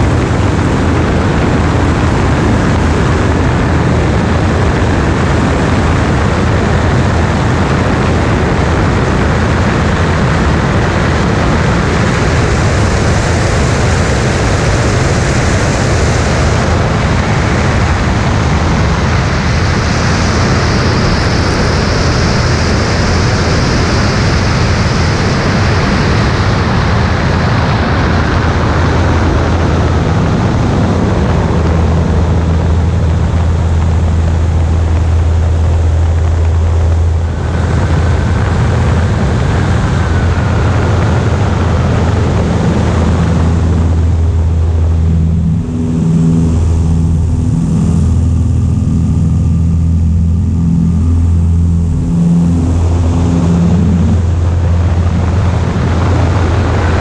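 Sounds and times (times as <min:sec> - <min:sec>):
airplane engine and propeller drone: 0:00.0 - 0:57.0
wind rushing over microphone: 0:00.0 - 0:57.0.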